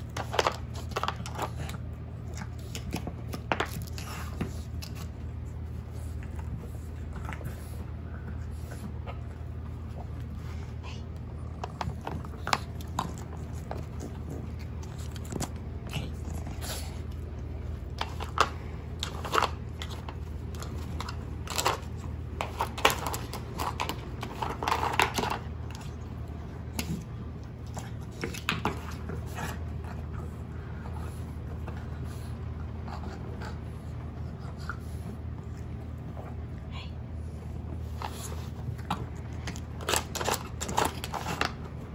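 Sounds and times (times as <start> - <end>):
dog chewing: 0.0 - 36.5, 37.6 - 41.9
low steady hum: 0.0 - 41.9.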